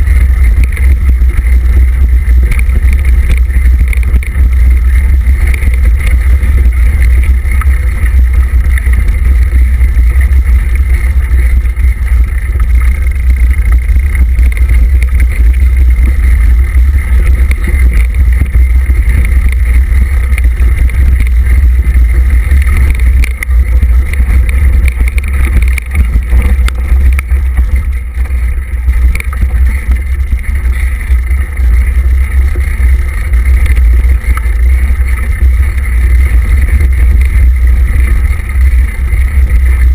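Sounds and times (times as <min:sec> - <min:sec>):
bike rattling over dirt trail: 0:00.0 - 0:39.9
wind buffeting microphone: 0:00.0 - 0:39.9.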